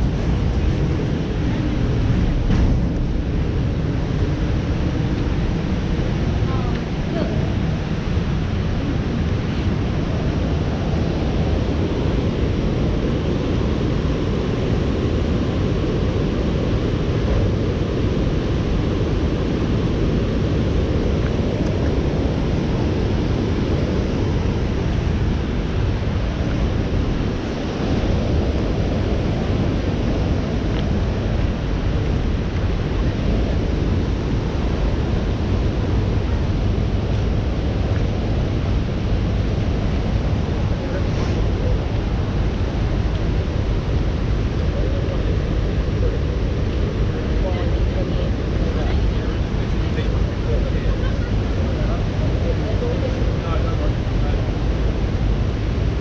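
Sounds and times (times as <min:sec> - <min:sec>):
faint outdoor ambience: 0:00.0 - 0:56.0
wind buffeting microphone: 0:00.0 - 0:56.0.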